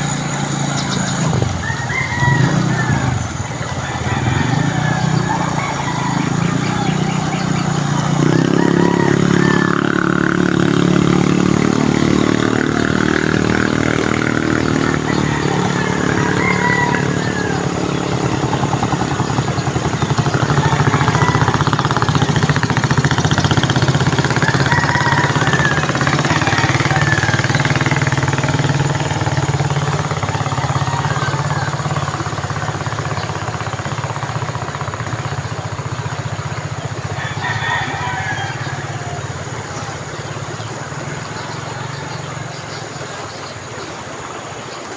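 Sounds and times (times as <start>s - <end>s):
small engine running: 0.0s - 44.6s.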